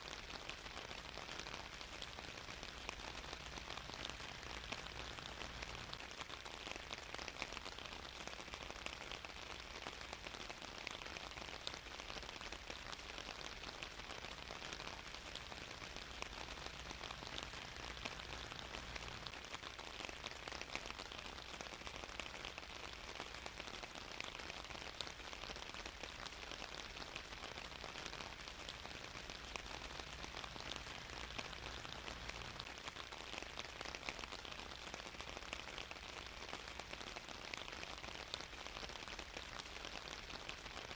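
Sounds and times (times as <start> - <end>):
rain hiss with drop ticks: 0.0 - 40.9.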